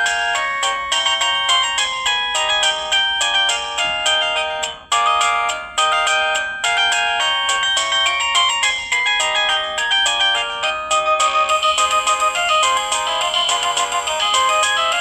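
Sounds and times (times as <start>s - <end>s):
cell phone ringtone melody: 0.0s - 15.0s.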